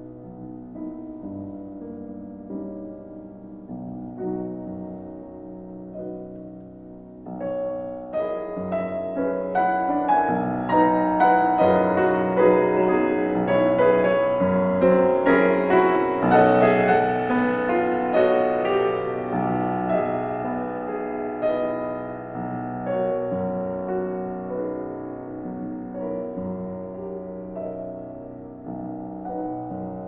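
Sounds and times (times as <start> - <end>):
classical solo piano music: 0.0 - 30.0.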